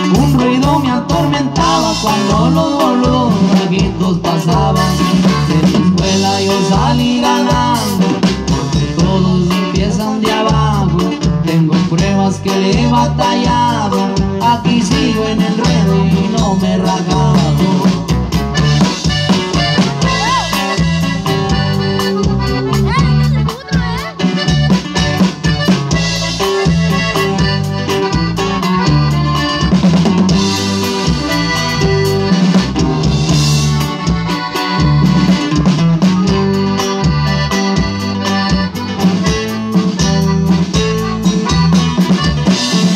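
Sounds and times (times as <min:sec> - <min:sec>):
live band playing a song: 0:00.0 - 0:42.9
snare and bass drum beat: 0:00.0 - 0:42.9.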